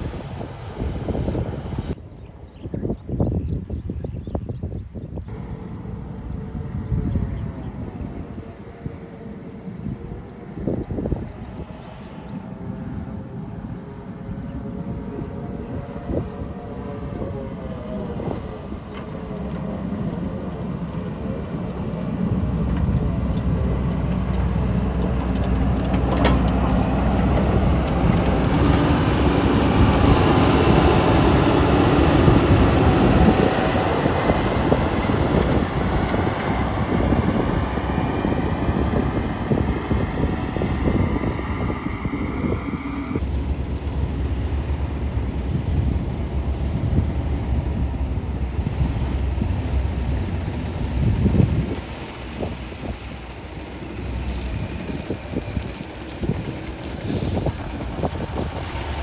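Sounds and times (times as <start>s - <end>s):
diesel excavator engine under load: 5.0s - 59.0s.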